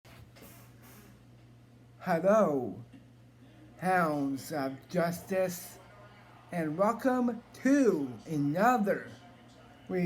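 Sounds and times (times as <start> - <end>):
low electrical hum: 0.1 - 10.0.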